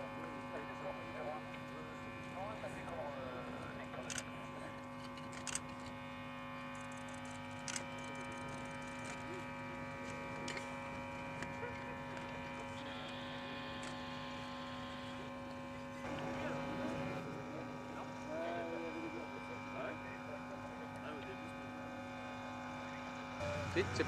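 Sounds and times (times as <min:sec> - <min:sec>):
steady tonal hum: 0:00.0 - 0:24.0.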